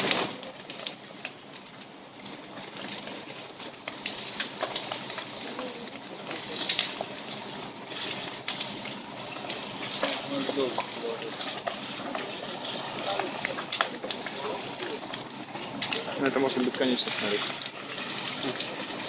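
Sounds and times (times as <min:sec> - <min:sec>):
burning logs crackling and popping: 0:00.0 - 0:19.0
fire hissing: 0:00.0 - 0:19.0.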